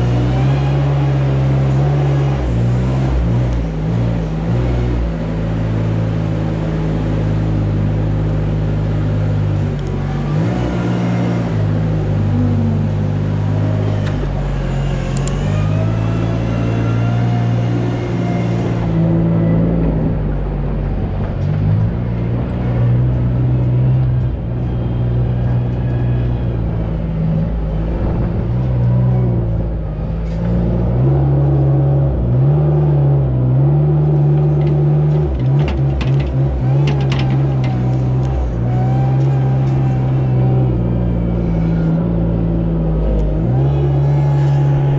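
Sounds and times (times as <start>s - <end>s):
wheel loader engine revving: 0.0s - 44.9s.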